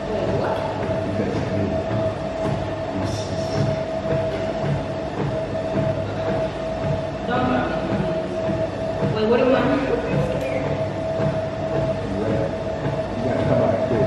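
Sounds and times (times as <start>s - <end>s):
mechanical rumble: 0.0s - 14.0s.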